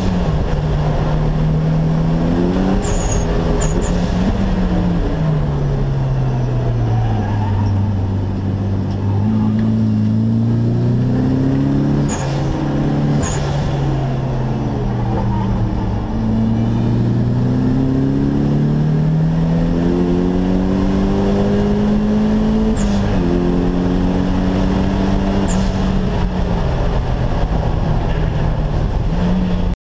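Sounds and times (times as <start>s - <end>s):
race car engine accelerating: 0.0s - 29.8s.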